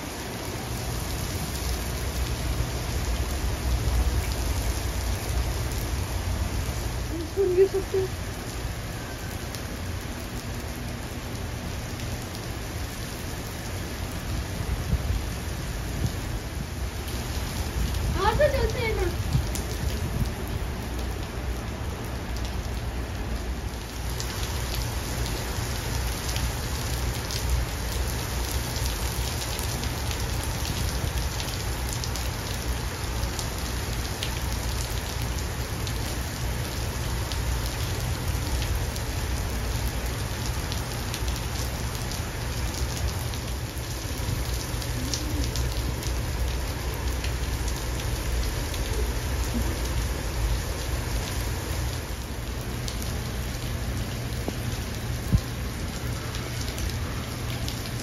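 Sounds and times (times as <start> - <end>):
rain on wet pavement: 0.0 - 58.0.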